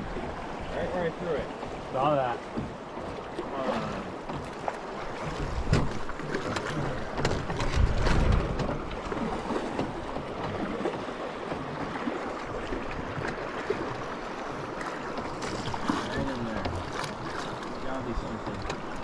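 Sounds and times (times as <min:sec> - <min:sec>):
river water lapping against boat: 0:00.0 - 0:19.0
small splashes and ticks: 0:01.6 - 0:19.0.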